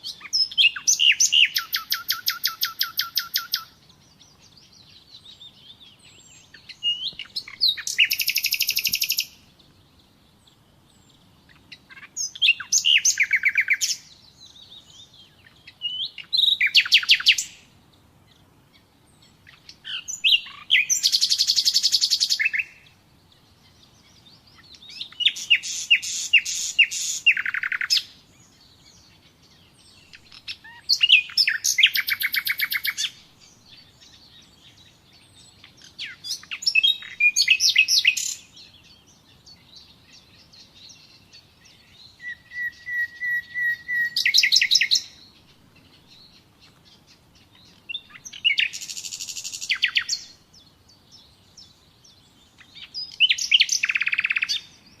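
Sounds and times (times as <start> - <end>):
nightingale singing: 0.0 - 55.0
soft bird twittering: 0.0 - 55.0.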